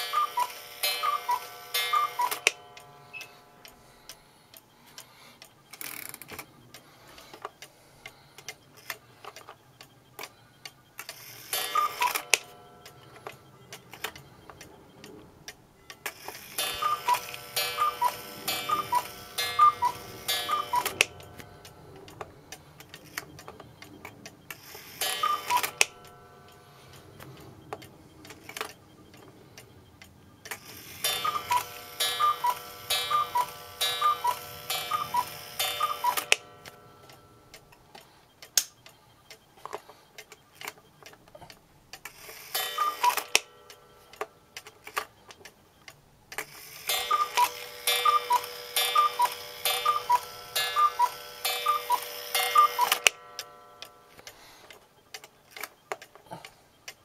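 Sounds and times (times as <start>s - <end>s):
clock ticking: 0.0s - 57.0s
cuckoo clock calls: 0.0s - 57.0s.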